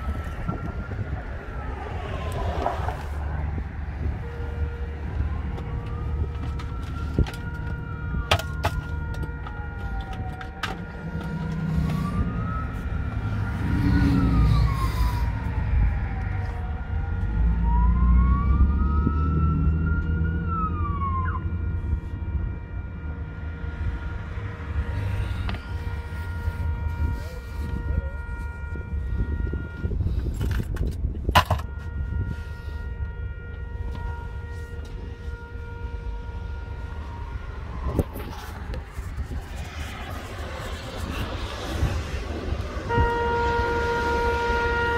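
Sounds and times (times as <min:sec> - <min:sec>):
emergency siren wailing: 0:00.0 - 0:44.9
road traffic rumble: 0:00.0 - 0:44.9.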